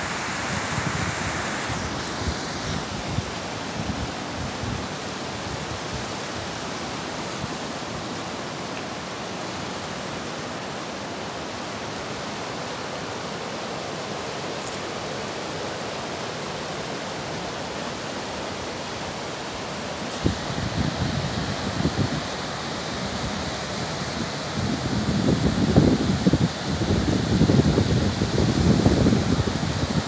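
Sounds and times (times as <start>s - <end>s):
river rushing over rapids: 0.0s - 30.0s.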